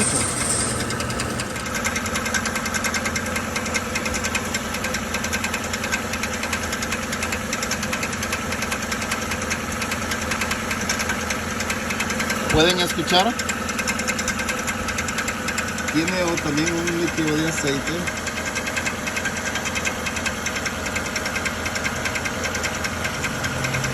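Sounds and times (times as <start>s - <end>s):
engine running with knocking rattle: 0.0s - 23.9s.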